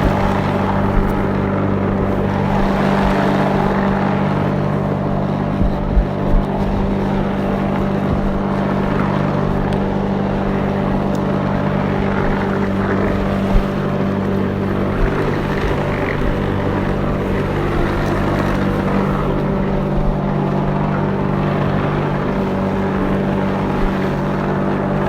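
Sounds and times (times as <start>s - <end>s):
lawnmower engine running: 0.0s - 25.0s.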